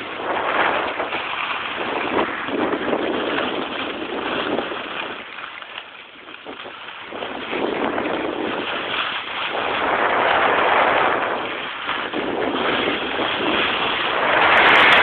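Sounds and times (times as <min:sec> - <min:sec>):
sliding on packed snow: 0:00.0 - 0:15.0
wind buffeting microphone: 0:00.0 - 0:15.0.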